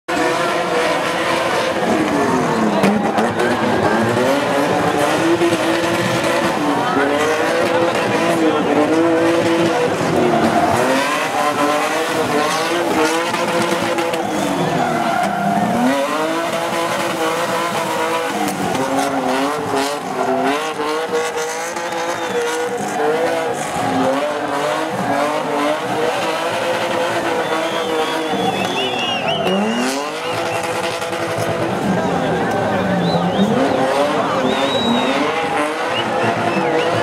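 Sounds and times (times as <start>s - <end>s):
car engine revving hard: 0.1s - 37.0s
tyres squealing and skidding: 0.1s - 37.0s.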